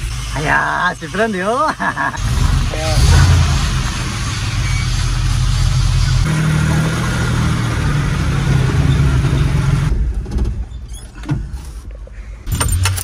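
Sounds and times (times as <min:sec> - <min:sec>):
truck engine idling: 0:00.0 - 0:12.9.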